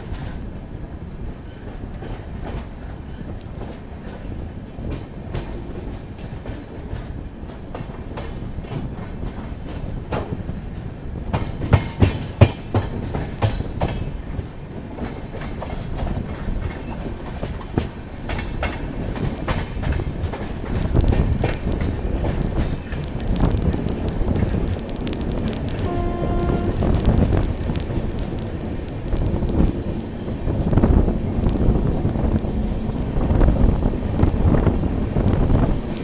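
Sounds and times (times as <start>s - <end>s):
clickety-clack over rail joints: 0.0s - 36.0s
train wheels rumbling: 0.0s - 36.0s.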